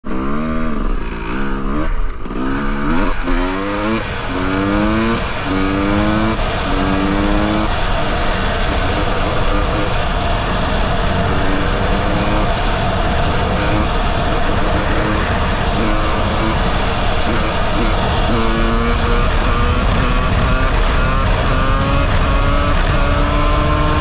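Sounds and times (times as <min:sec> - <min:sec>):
dirt bike accelerating: 0:00.0 - 0:24.0
wind rushing over microphone: 0:02.2 - 0:24.0.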